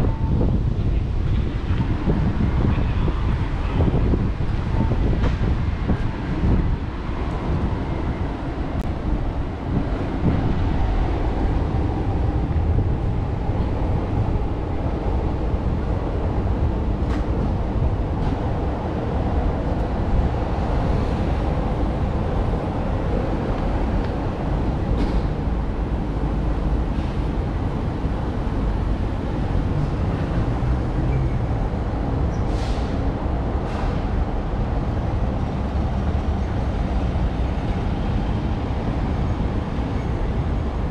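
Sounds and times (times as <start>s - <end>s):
city traffic rumble: 0.0s - 40.9s.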